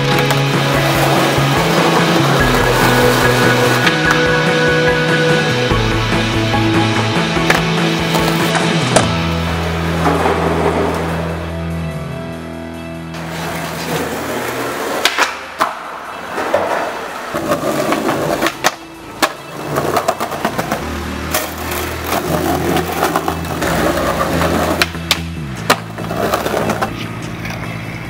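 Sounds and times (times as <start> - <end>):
skateboard wheels rolling on tiles: 0.0 - 5.8, 6.4 - 11.7, 13.2 - 28.0
skateboard clacks: 0.0 - 5.9, 6.8 - 11.5, 13.2 - 28.0
background music: 0.0 - 28.0.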